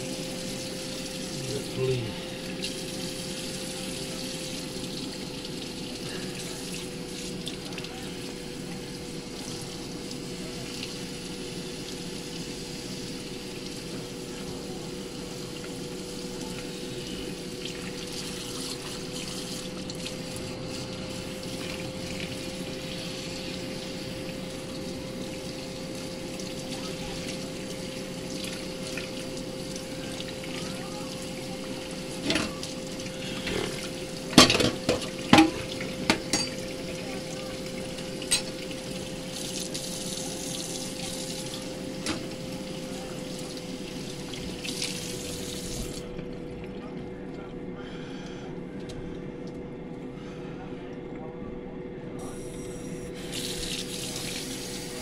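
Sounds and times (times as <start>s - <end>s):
faucet running into steel sink: 0.0s - 46.0s, 52.4s - 55.0s
steady hum: 0.0s - 55.0s.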